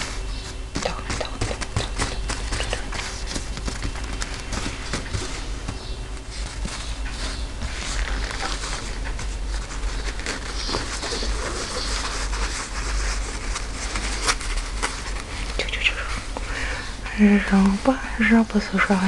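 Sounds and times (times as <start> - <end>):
fabric rustling and scratching: 0.0 - 16.4.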